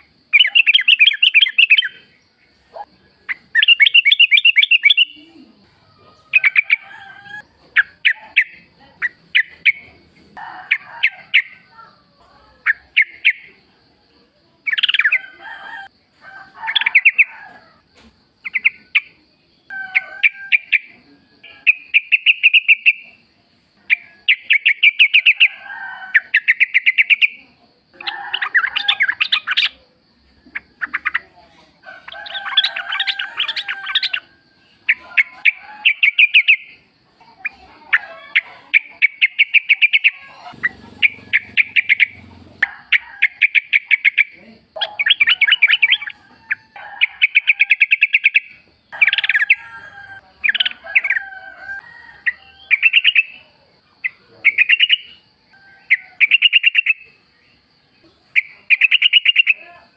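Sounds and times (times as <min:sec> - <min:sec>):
bulbuls chirping: 0:00.0 - 0:13.8, 0:16.6 - 0:59.9.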